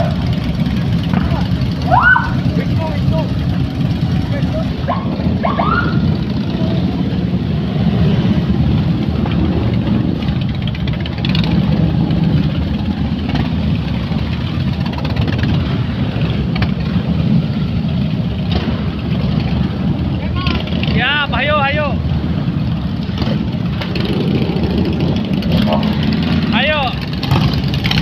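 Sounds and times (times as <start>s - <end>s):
motorcycle engines running: 0.0s - 28.0s.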